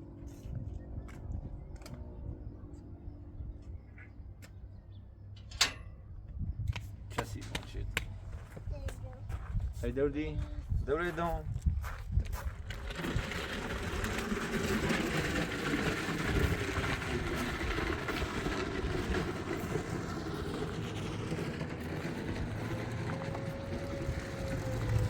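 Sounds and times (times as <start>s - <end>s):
vehicle engine and road noise: 0.0s - 25.0s.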